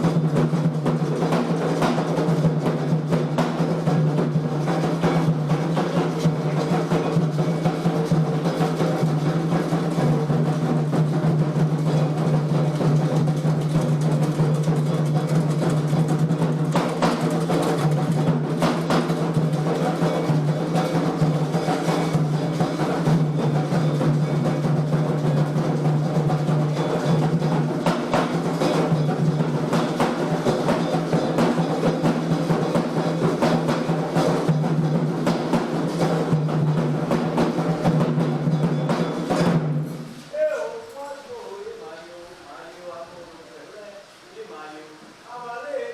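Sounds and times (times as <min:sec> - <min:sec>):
hand drums playing rhythm: 0:00.0 - 0:40.8.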